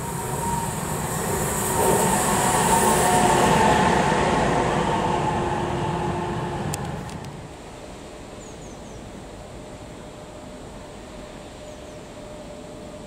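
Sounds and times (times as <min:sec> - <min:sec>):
steady multi-tone whine: 0:00.0 - 0:13.0.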